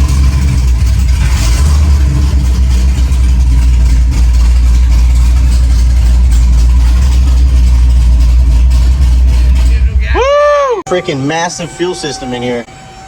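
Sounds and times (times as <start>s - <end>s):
loud engine exhaust rumble: 0.0s - 10.8s.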